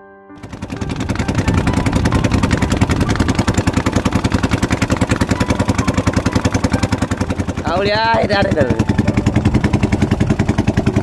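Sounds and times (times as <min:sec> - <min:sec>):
small engine running: 0:00.4 - 0:11.0.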